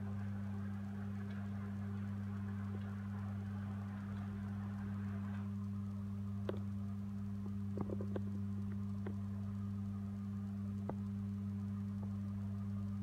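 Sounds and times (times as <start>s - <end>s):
projector screen motor humming: 0.0s - 13.0s.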